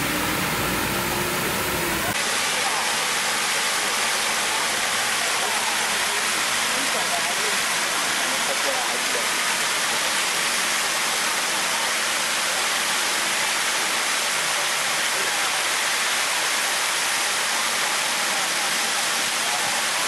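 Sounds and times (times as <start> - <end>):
water fountain spraying: 0.0 - 20.0.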